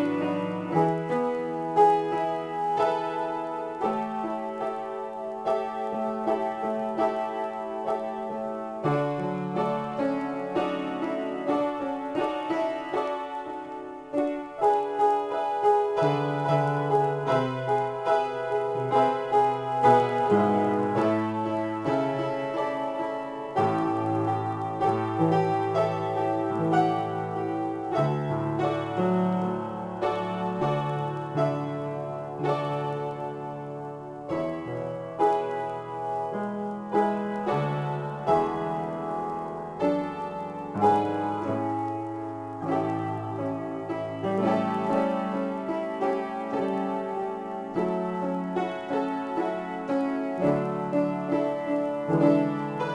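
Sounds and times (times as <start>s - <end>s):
solo piano improvisation: 0.0s - 52.9s.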